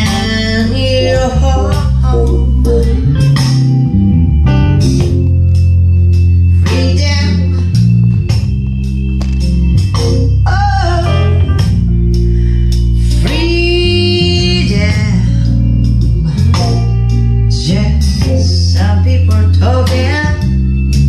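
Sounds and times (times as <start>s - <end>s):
person singing a slow ballad: 0.0s - 4.2s, 6.4s - 8.4s, 10.2s - 21.0s
held chords and bass notes: 0.0s - 21.0s.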